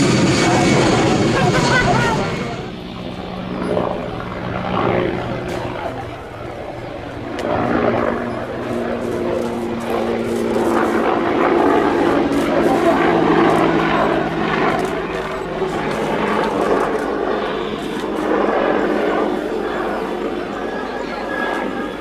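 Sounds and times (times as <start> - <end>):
aircraft engines running: 0.0 - 22.0.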